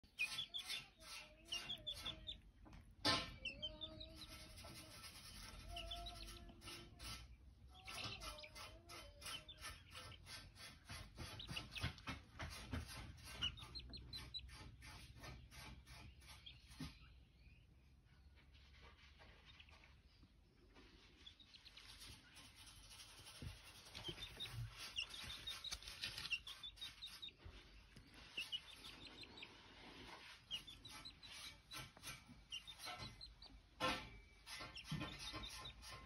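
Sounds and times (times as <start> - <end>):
chick peeping: 0.0 - 36.0.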